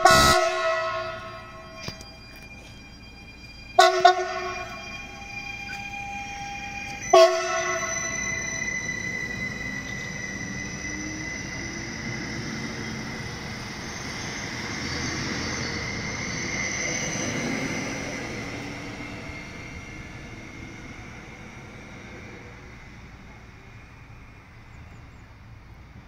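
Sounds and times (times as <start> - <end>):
rumble of train wheels: 0.0 - 26.0
train traction drive whine: 0.0 - 26.0.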